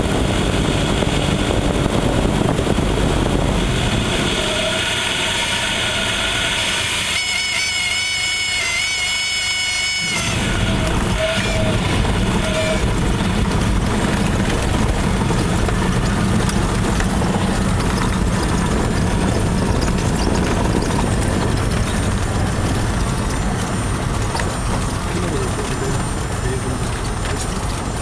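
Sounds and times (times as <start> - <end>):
propeller plane engine running: 0.0 - 28.0.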